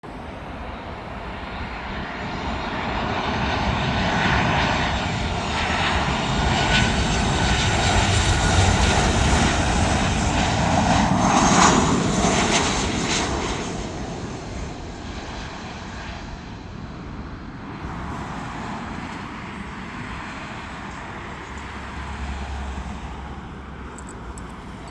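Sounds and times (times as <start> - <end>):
airplane flying over: 0.0 - 24.9.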